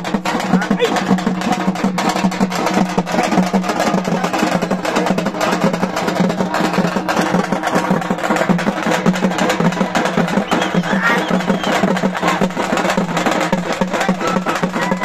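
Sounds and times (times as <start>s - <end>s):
fast continuous drumming: 0.0s - 15.0s.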